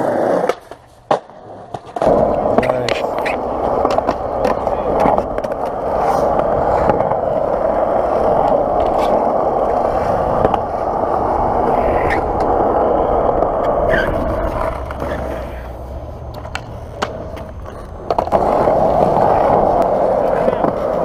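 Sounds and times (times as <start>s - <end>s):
skateboard wheels rolling on concrete: 0.0s - 21.0s.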